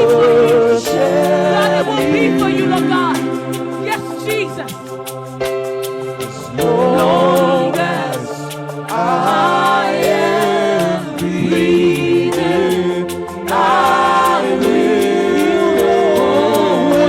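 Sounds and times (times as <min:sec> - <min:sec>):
group singing worship song: 0:00.0 - 0:17.0
light ticking beat: 0:00.0 - 0:17.0
sustained backing chords: 0:00.0 - 0:17.0.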